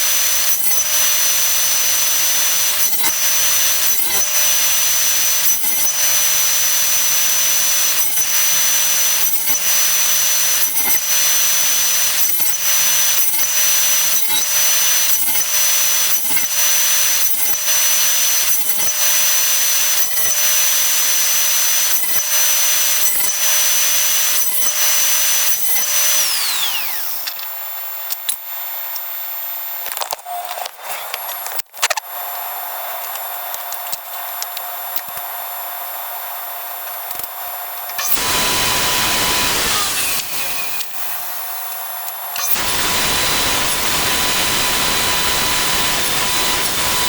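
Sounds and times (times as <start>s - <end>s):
power tool whining: 0.0s - 33.3s, 37.9s - 47.0s.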